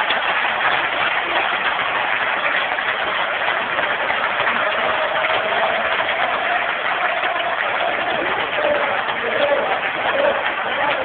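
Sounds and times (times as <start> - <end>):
football crowd cheering: 0.0 - 11.0.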